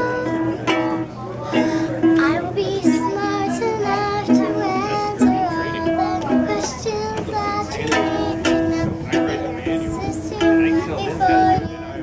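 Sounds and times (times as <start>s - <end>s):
girl singing: 0.0s - 12.0s
ukulele strumming: 0.0s - 12.0s.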